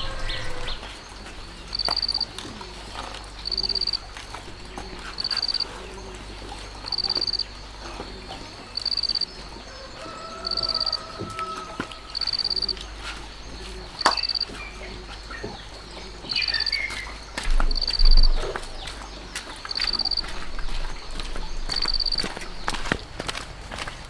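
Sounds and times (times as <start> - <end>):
cricket chirping trills: 0.0 - 18.6, 19.6 - 22.6.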